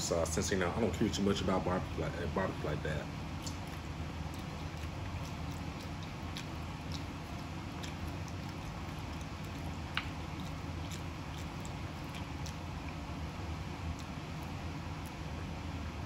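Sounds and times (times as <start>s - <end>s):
low hum: 0.0s - 16.0s
man chewing food: 3.0s - 16.0s.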